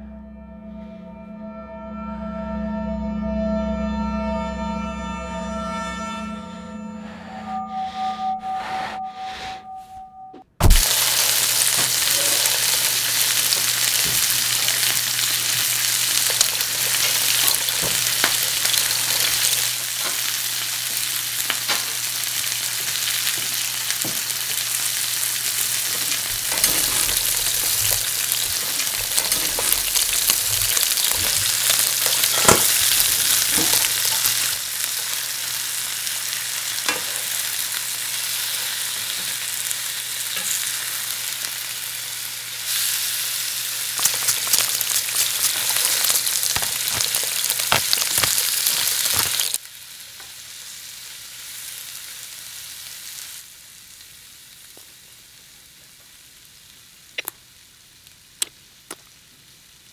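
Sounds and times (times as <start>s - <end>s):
steak sizzling in a frying pan: 10.6s - 59.9s.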